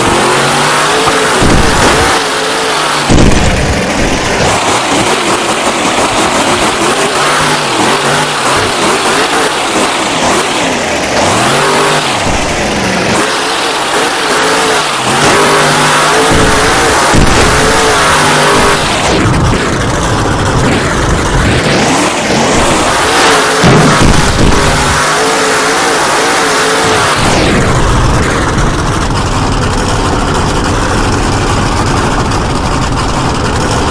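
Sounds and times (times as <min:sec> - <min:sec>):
truck engine revving hard: 0:00.0 - 0:33.9.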